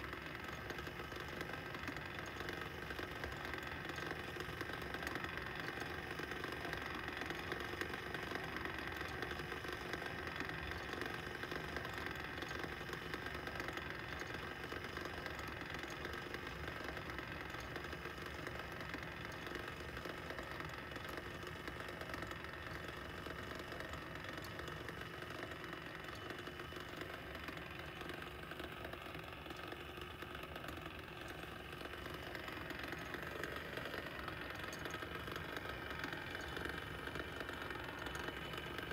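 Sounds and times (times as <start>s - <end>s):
small motor humming: 0.0s - 38.9s.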